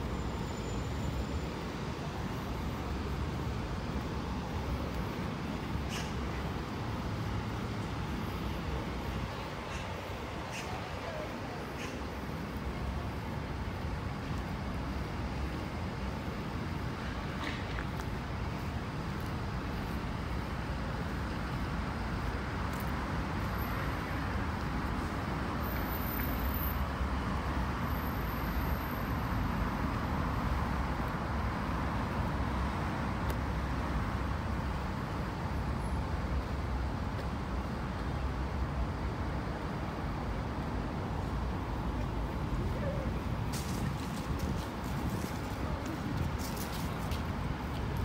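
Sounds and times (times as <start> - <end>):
road traffic noise: 0.0 - 48.0.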